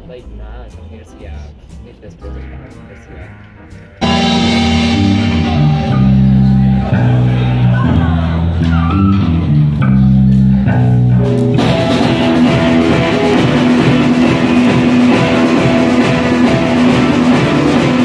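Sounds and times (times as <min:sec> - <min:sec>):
rock band playing: 0:02.3 - 0:18.0.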